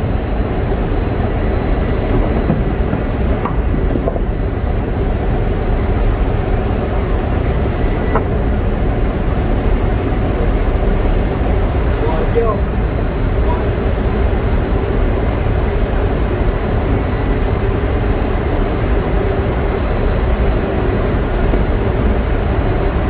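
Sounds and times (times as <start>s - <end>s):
generator engines rumbling: 0.0s - 23.0s.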